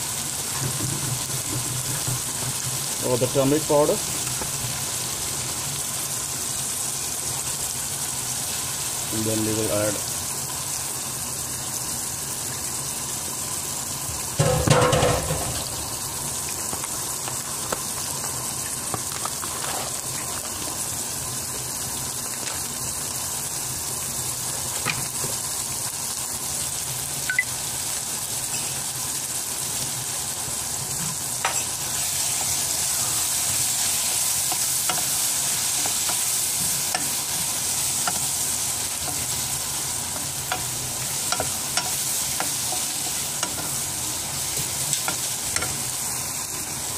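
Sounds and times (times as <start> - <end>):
frying hiss with pops: 0.0 - 46.9.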